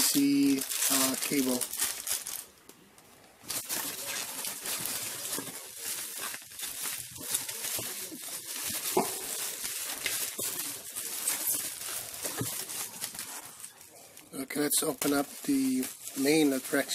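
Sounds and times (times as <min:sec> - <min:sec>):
bubble wrap crinkling: 0:00.0 - 0:16.9.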